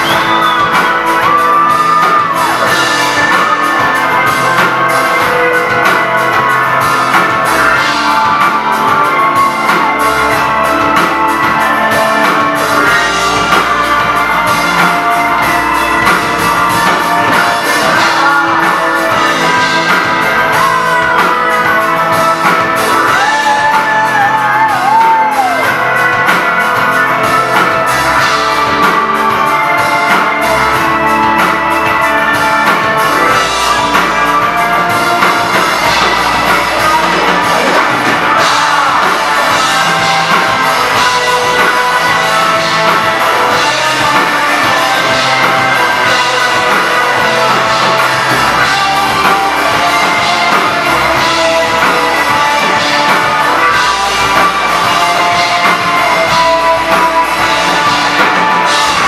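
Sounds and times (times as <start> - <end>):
live rock band playing: 0.0 - 59.0
wavering lead melody: 0.0 - 59.0.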